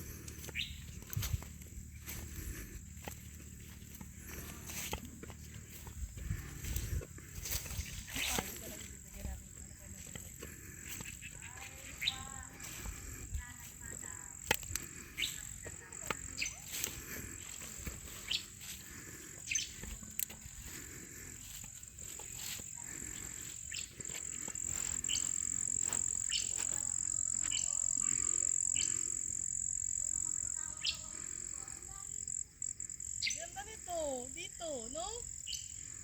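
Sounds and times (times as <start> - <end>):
birds chirping: 0.0 - 31.9, 32.8 - 34.0, 35.3 - 36.0
high-pitched insect drone: 0.0 - 36.0.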